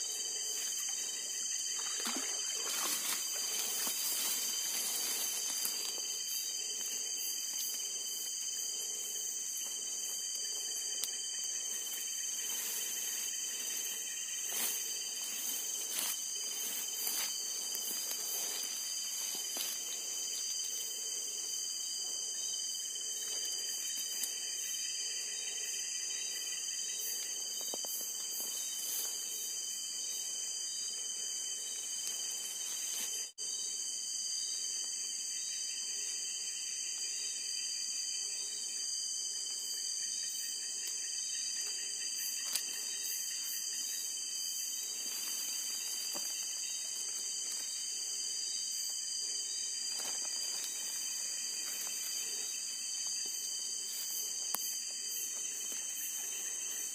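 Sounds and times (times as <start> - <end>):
crickets and insects trilling: 0.0 - 56.9.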